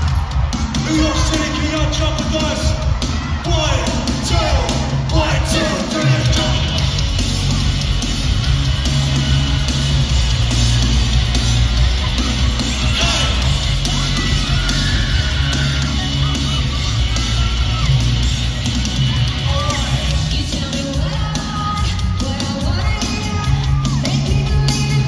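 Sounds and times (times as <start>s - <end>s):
live rock band through speakers: 0.0s - 25.0s.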